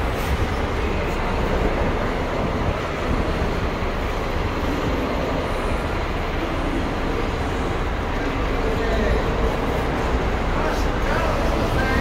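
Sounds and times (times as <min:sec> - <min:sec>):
diesel bus engines running: 0:00.0 - 0:12.0.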